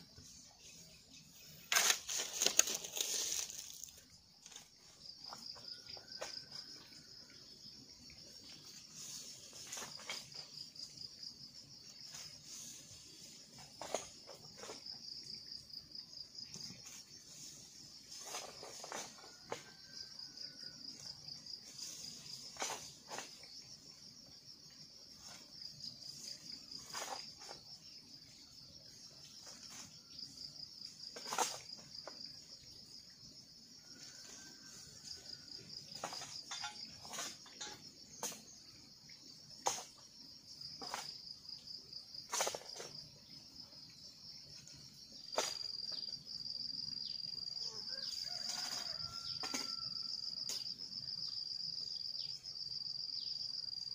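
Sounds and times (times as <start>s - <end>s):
pulsing insect chorus: 0.0s - 53.9s.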